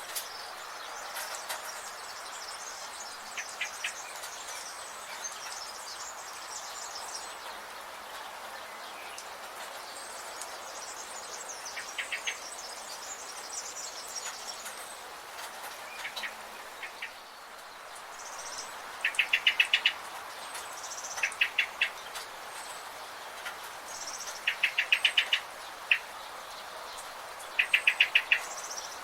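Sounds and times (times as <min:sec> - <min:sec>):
small birds chirping: 0:00.0 - 0:29.0
steady hiss: 0:00.0 - 0:29.0.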